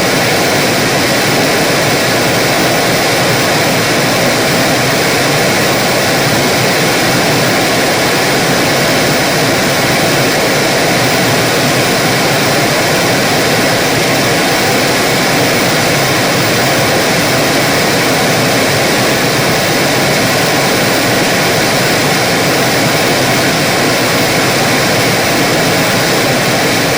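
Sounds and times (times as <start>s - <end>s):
television static hiss: 0.0s - 26.9s.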